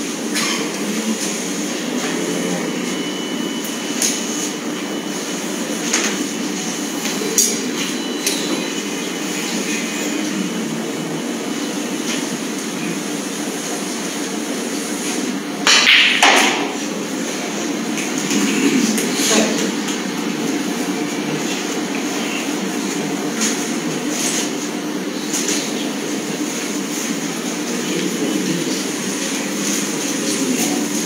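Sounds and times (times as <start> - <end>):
murmur of a hall: 0.0 - 31.0.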